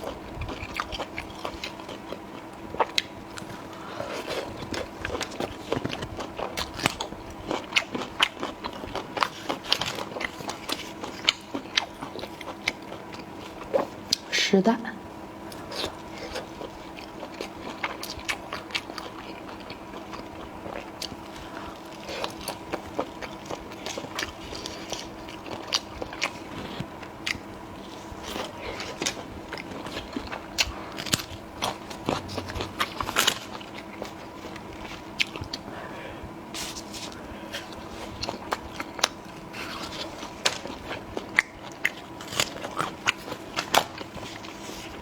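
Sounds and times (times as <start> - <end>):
person chewing crunchy food: 0.0 - 14.3, 15.4 - 45.0.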